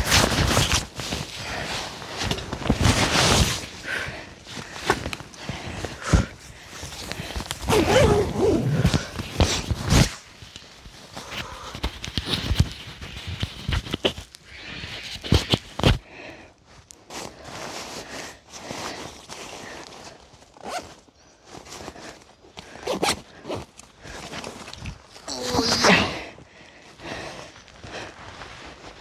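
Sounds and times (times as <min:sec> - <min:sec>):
clothing and gear rustling: 0:00.0 - 0:14.3, 0:17.1 - 0:26.1.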